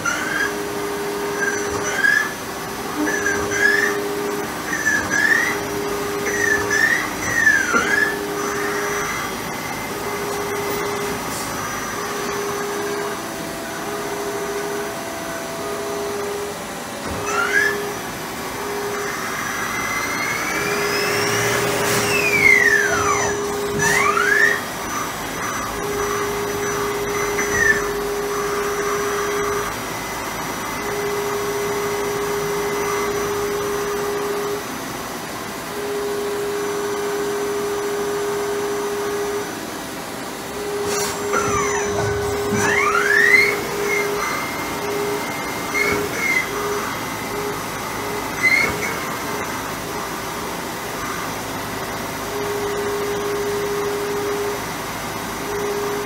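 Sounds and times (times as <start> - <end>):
lathe spindle whining: 0.0 - 56.0
machine hum: 0.0 - 56.0.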